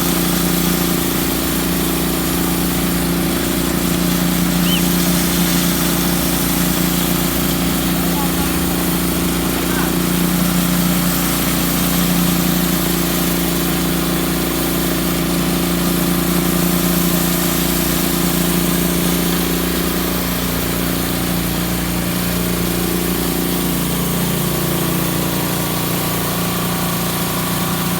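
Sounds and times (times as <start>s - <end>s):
pressure washer running: 0.0s - 27.9s.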